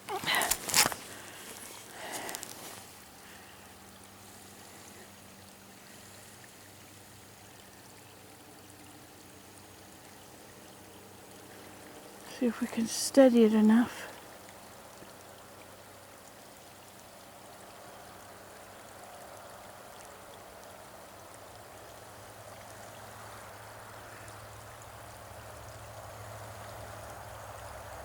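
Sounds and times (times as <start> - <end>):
waterfall running into pond: 0.0 - 28.0.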